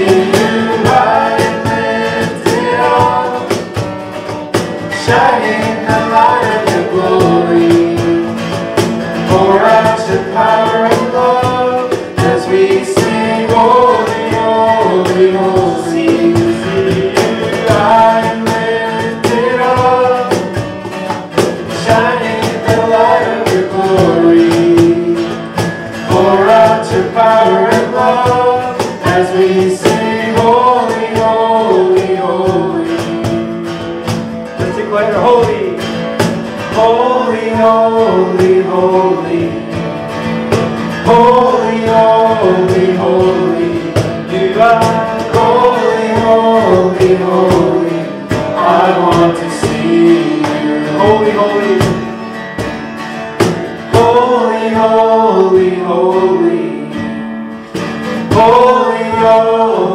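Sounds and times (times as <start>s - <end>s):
cajon beat: 0.0s - 59.9s
people singing: 0.0s - 59.9s
strummed acoustic guitar: 0.0s - 59.9s.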